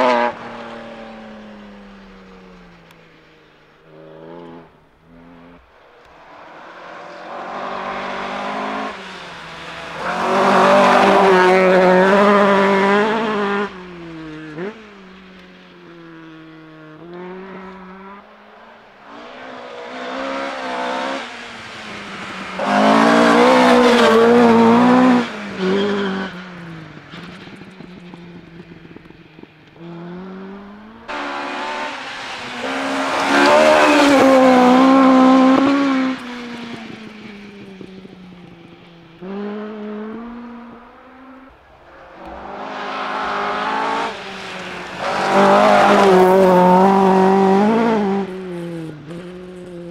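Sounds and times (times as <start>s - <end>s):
rally cars passing at full throttle: 0.0s - 49.9s.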